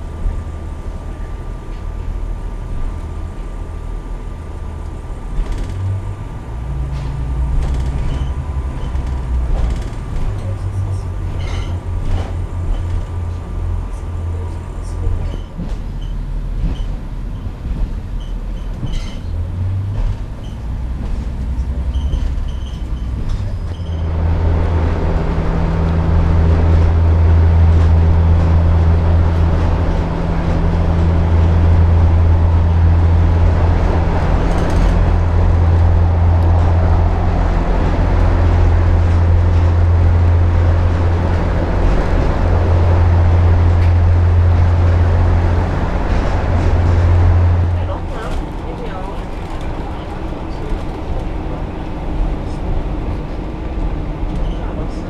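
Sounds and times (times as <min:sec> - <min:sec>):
passenger train rumbling: 0:00.0 - 0:55.0.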